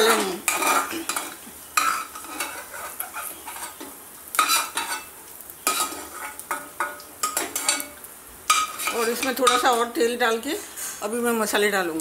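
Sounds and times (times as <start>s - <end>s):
ladle scraping metal pan: 0.0s - 9.9s
oil sizzling faintly: 0.0s - 12.0s.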